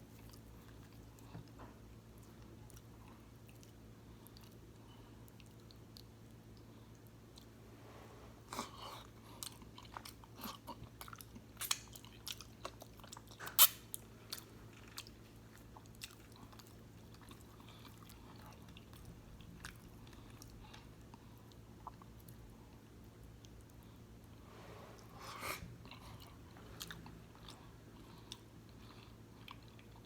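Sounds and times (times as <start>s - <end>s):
close chewing with mouth clicks: 0.0s - 7.6s, 8.6s - 24.4s, 25.8s - 30.0s.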